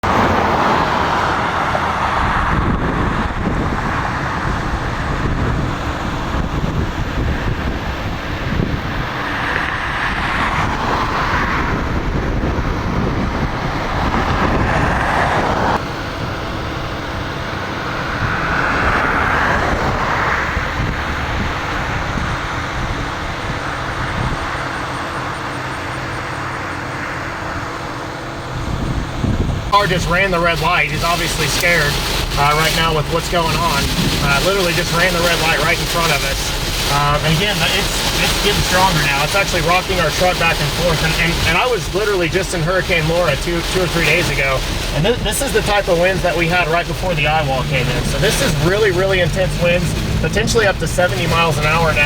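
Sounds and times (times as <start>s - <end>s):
heavy rain on vehicle: 0.0s - 25.1s, 29.6s - 52.0s
strong wind buffeting vehicle: 0.0s - 52.0s
vehicle and road noise: 0.0s - 52.0s.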